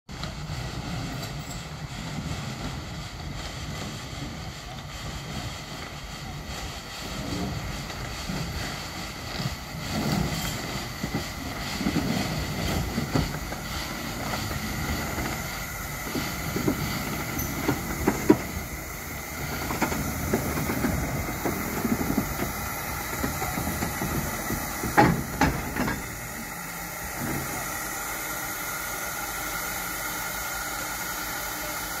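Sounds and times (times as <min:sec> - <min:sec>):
steam locomotive hissing: 0:00.1 - 0:32.0.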